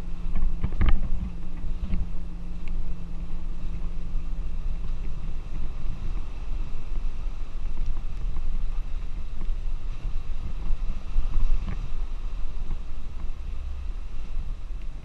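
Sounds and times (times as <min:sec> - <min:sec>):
vehicle engine and road noise: 0:00.0 - 0:15.0
water washing under tyres: 0:00.0 - 0:15.0
wind buffeting microphone: 0:00.0 - 0:15.0.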